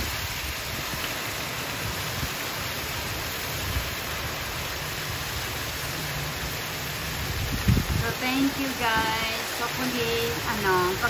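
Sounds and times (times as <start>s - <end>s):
heavy rain falling: 0.0s - 11.0s
rainwater spilling over gutter: 0.0s - 11.0s.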